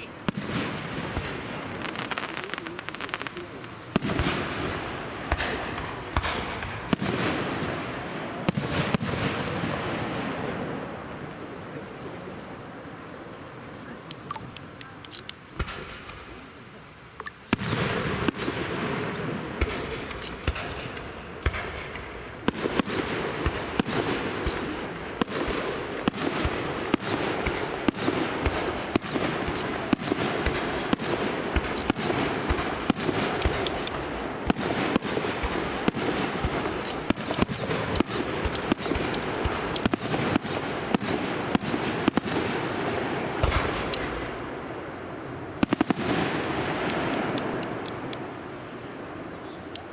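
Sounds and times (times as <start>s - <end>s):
fireworks crackling and banging: 0.0s - 49.9s.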